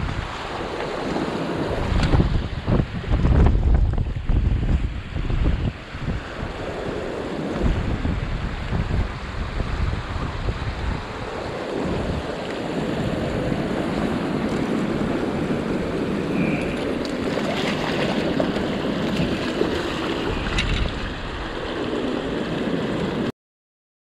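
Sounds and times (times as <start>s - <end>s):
river water rushing: 0.0s - 3.2s, 4.9s - 23.3s
wind buffeting the microphone: 0.0s - 23.3s.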